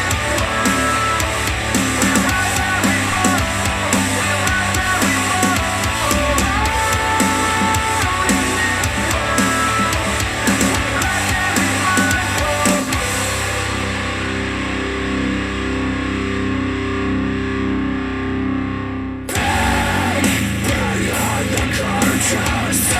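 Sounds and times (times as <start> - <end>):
distorted electric guitar: 0.0 - 22.9
drums: 0.0 - 22.9.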